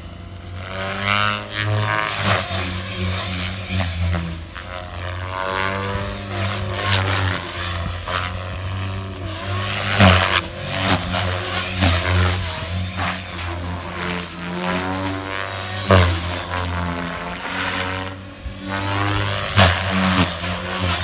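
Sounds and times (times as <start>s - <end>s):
electric motor whine: 0.0s - 21.0s
rotor hum: 0.0s - 21.0s
rotor blade whooshes: 0.1s - 21.0s.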